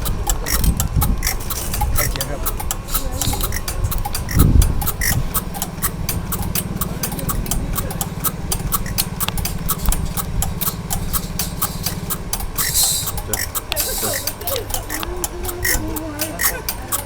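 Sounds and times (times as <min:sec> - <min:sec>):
sharp crackling clicks: 0:00.0 - 0:17.0.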